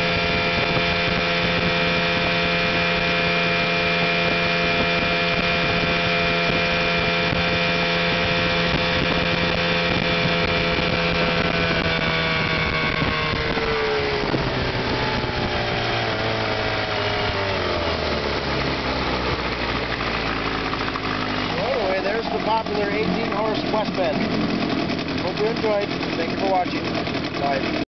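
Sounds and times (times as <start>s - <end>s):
outboard motor running: 0.0s - 27.9s.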